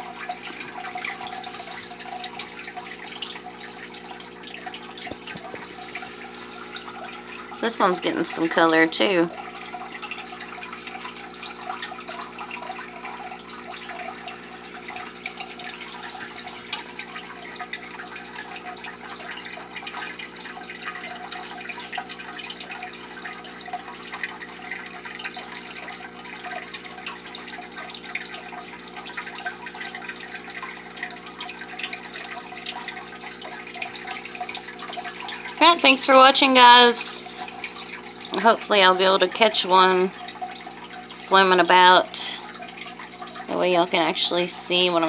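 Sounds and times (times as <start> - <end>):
air bubbles splashing: 0.0 - 45.0.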